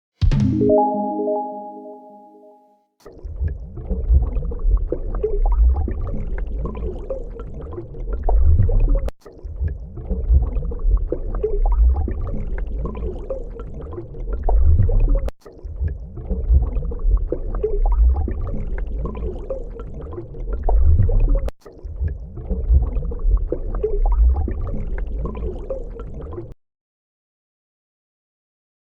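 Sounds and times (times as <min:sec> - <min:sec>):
water churning and gurgling: 0:03.1 - 0:26.6
water bubbling: 0:03.3 - 0:26.6.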